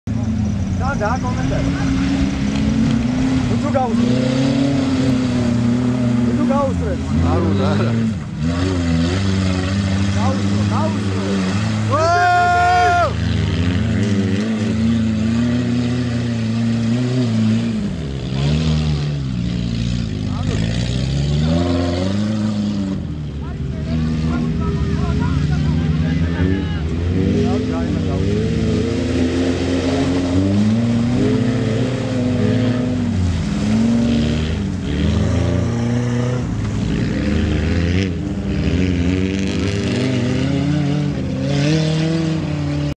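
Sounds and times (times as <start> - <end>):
engines revving in mud: 0.0 - 42.9.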